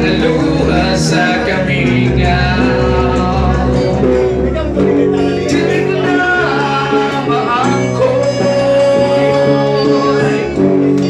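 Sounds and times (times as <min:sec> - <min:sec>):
electric guitars playing: 0:00.0 - 0:11.0
man singing: 0:00.0 - 0:11.0.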